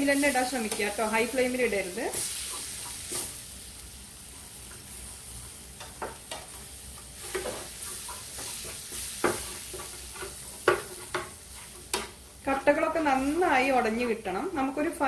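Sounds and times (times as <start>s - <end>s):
soft sizzle: 0.0s - 15.0s.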